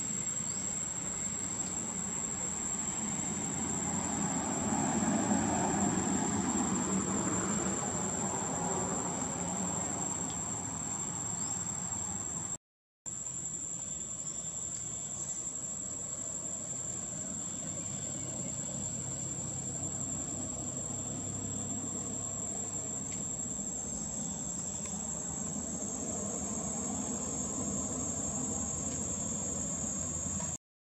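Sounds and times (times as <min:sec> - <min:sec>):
insects droning: 0:00.0 - 0:30.6.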